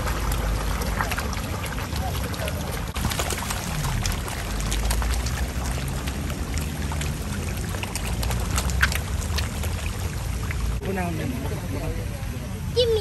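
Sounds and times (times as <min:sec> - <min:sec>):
fish splashing at water surface: 0:00.0 - 0:11.7.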